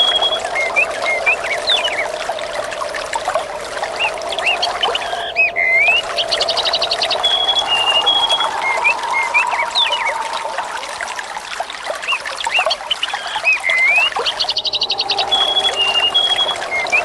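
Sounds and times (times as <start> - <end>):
birds chirping: 0.0 - 2.9, 3.9 - 11.2, 11.9 - 17.0
running water: 0.0 - 17.0.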